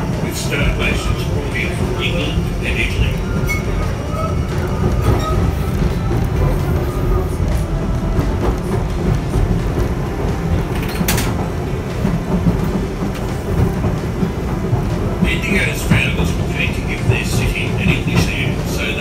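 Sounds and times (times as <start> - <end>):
tram wheels and motor rumbling: 0.0 - 19.0.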